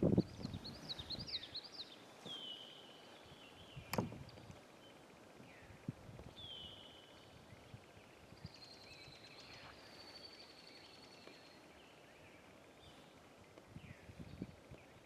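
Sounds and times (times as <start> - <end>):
faint birdsong: 0.0 - 15.0
soft outdoor background noise: 0.0 - 15.0.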